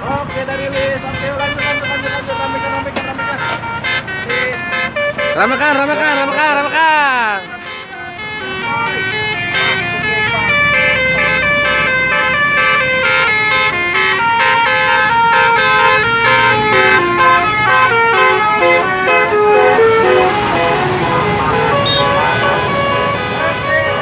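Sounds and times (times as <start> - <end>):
bus air-horn playing tune: 0.0 - 24.0.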